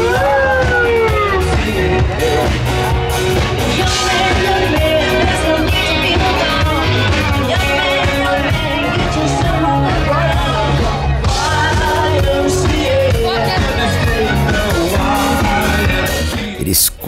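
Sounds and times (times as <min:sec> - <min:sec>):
person singing: 0:00.0 - 0:02.7, 0:03.6 - 0:17.0
live rock band playing: 0:00.0 - 0:17.0.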